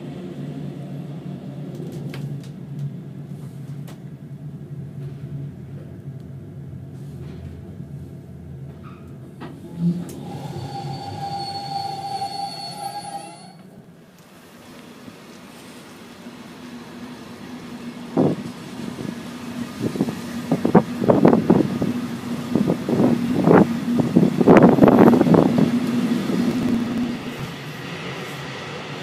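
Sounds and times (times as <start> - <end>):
diesel locomotive hum: 0.0 - 29.0.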